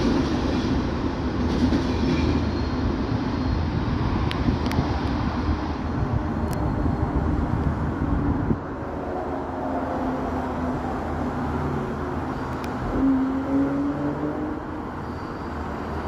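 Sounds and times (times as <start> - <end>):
train rumbling over tracks: 0.0 - 16.0.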